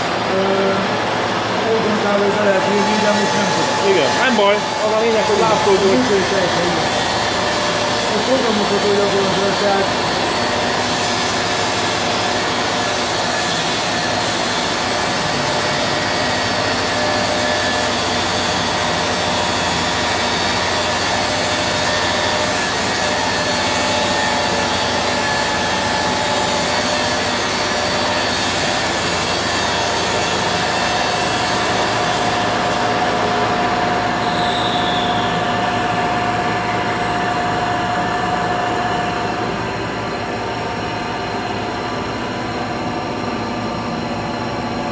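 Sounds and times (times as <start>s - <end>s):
machining centre hissing and humming: 0.0s - 44.9s.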